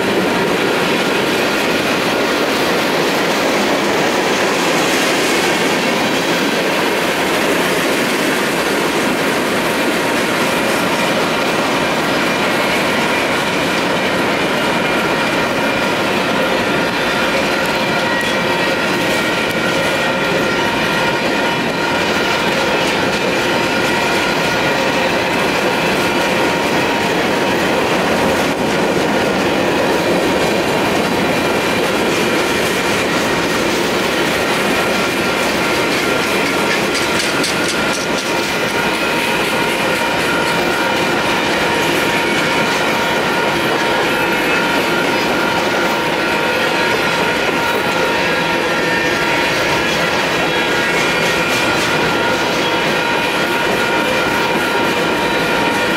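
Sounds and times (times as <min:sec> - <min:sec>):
crossing signal bells ringing: 0:00.0 - 0:55.9
train wheels clicking on rails: 0:00.0 - 0:55.9.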